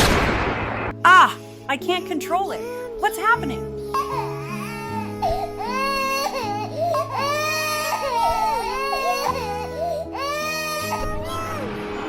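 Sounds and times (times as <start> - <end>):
background music with low notes: 0.1 - 12.0.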